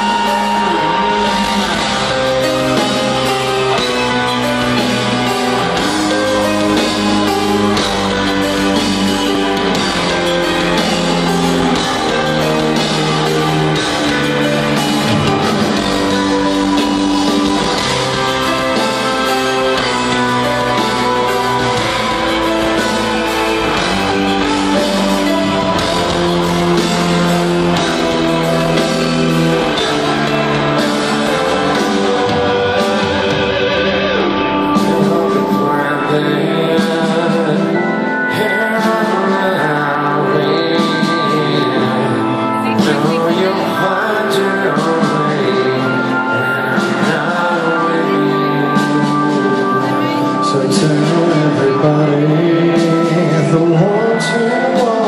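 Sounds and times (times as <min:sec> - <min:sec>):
drums: 0:00.0 - 0:55.0
heavy metal band playing live: 0:00.0 - 0:55.0.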